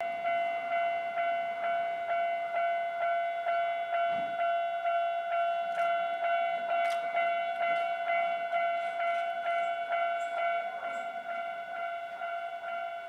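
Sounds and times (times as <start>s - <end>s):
electronic crossing bell dinging: 0.0s - 13.0s.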